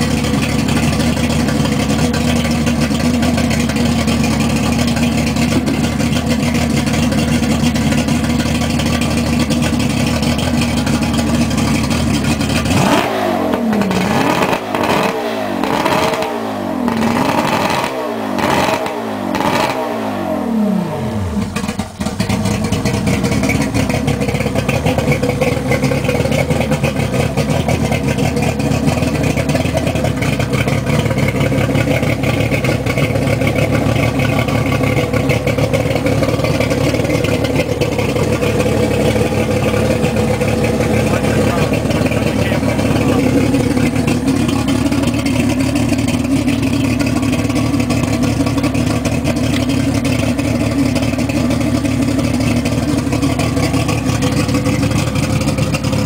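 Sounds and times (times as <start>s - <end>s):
outboard motor idling and revving: 0.0s - 56.0s.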